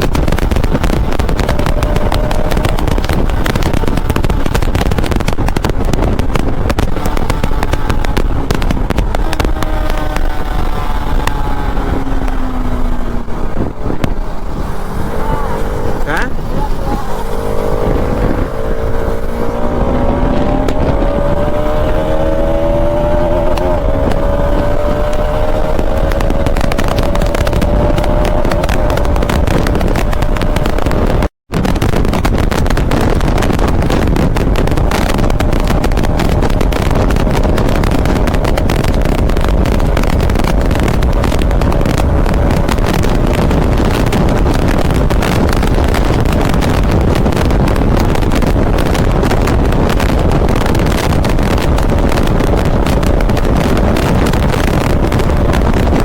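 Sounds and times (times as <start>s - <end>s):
motorcycle engine accelerating: 0.0s - 56.0s
wind rushing on microphone: 0.0s - 56.0s.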